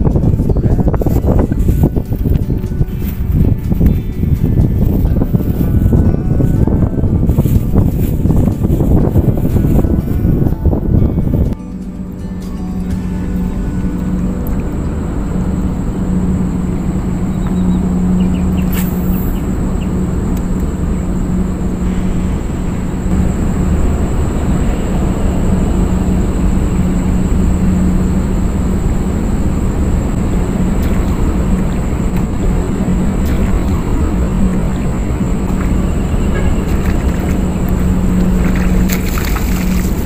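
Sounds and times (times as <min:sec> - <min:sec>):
constant hum: 0:00.0 - 0:40.0
high steady whine: 0:00.0 - 0:40.0
low mechanical rumble: 0:00.0 - 0:40.0.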